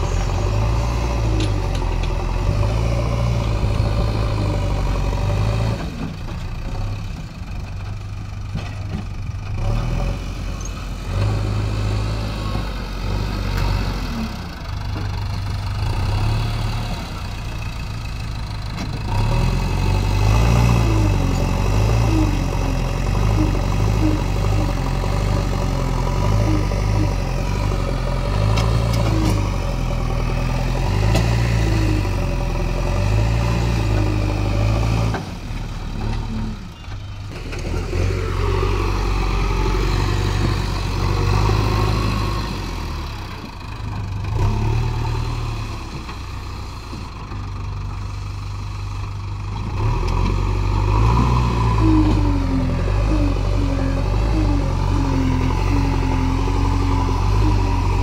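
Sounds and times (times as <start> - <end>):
diesel engine under load: 0.0 - 58.0
loader bucket working soil: 0.0 - 58.0.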